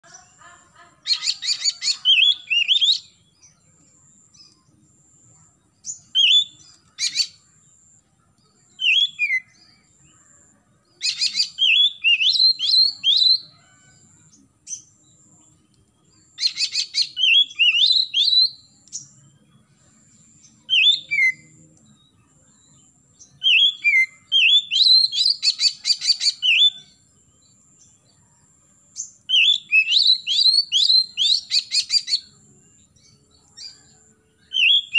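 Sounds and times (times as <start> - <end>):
bird singing whistled notes: 1.3 - 4.7, 5.7 - 10.1, 10.8 - 13.6, 14.7 - 28.4, 29.0 - 34.9.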